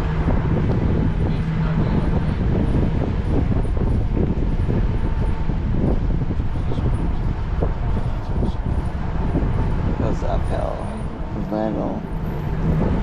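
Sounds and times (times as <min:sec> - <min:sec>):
vehicle driving slowly: 0:00.0 - 0:13.0.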